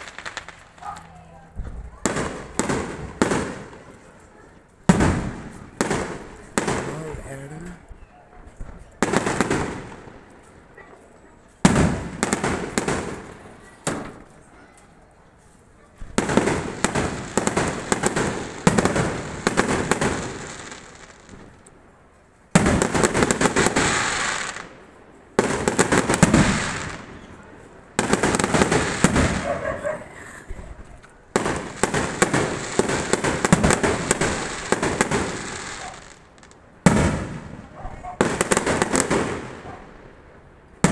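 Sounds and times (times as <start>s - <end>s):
firecrackers crackling pops: 0.0s - 7.8s, 8.6s - 10.7s, 11.6s - 14.4s, 16.0s - 21.8s, 22.5s - 29.5s, 30.2s - 39.7s, 40.7s - 40.9s.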